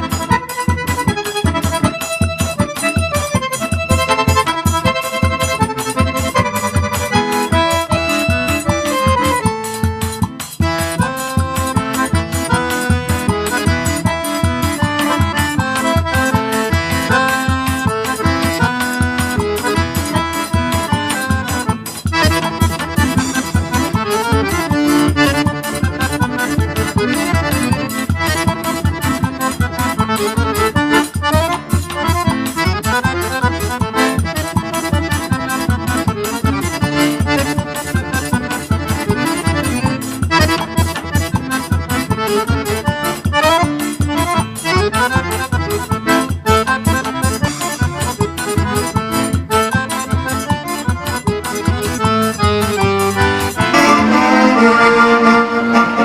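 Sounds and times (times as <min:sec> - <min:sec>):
accordion music over steady beat: 0:00.0 - 0:56.0.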